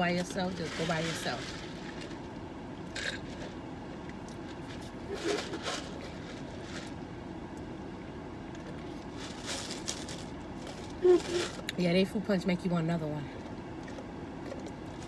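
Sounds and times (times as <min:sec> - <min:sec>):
low rumble inside a car: 0:00.0 - 0:15.0.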